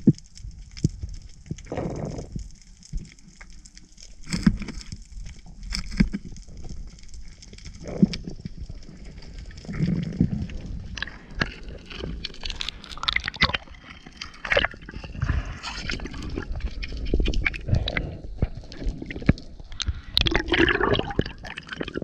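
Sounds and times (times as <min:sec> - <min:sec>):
water gurgling underwater: 0:00.0 - 0:03.3, 0:04.1 - 0:22.0.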